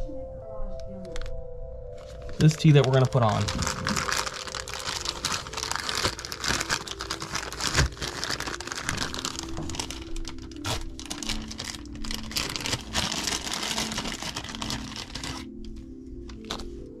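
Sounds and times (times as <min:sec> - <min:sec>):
plastic packaging crinkling: 0:02.0 - 0:17.0.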